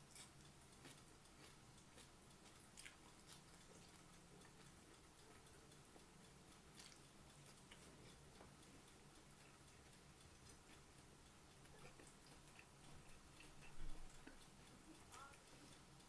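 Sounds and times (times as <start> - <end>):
faint chewing: 0.0 - 16.0.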